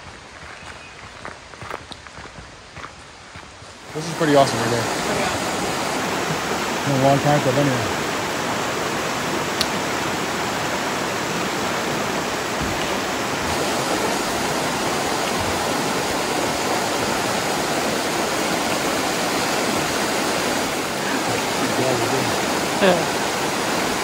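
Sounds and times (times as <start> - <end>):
brook rushing over rocks: 3.8 - 24.0.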